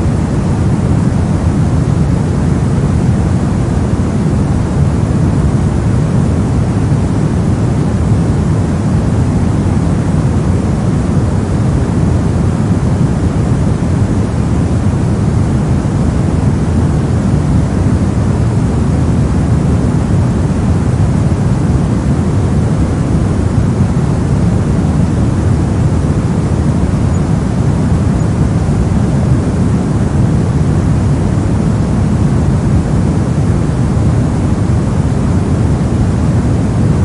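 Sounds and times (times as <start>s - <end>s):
deep rumbling brown noise hiss: 0.0s - 37.0s.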